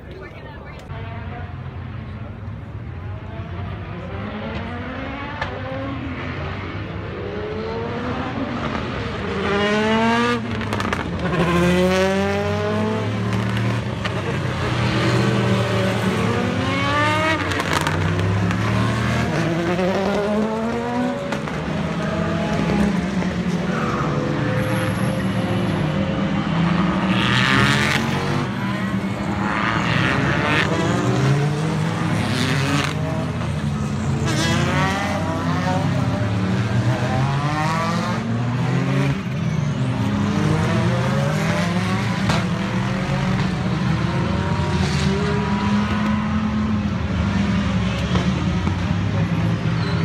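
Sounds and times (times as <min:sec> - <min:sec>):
racing car engines passing by: 0:00.0 - 0:50.0.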